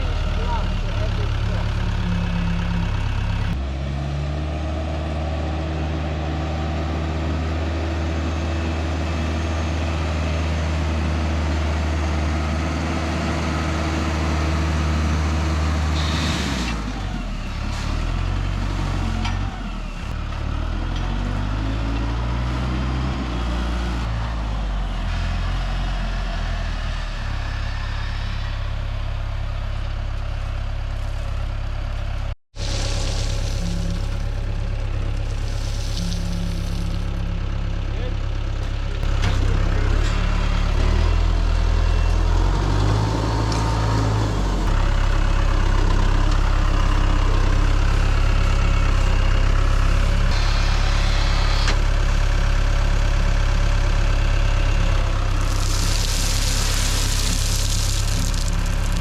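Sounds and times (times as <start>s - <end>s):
tractor engine running: 0.0s - 15.8s, 17.0s - 59.0s.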